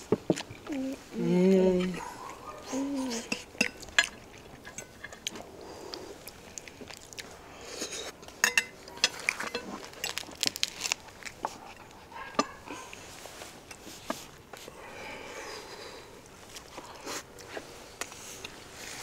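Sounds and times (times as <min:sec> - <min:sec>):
crunchy chewing: 0:01.8 - 0:08.2, 0:08.8 - 0:19.0.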